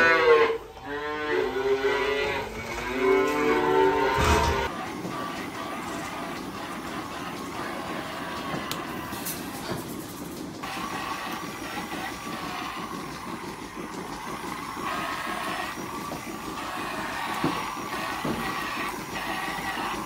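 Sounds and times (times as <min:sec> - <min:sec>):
milking machine running: 0:00.0 - 0:20.0
rotary brush running: 0:01.5 - 0:20.0.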